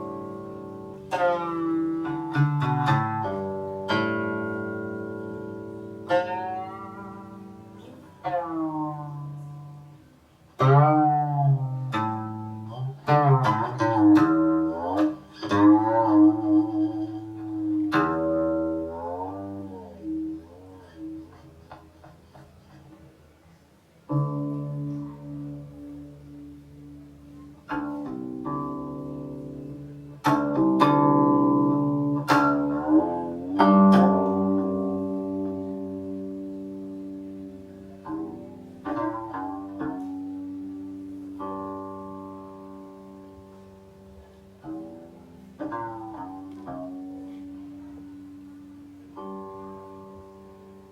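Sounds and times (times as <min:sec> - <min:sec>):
zither plucked notes with slides: 0:00.0 - 0:50.9.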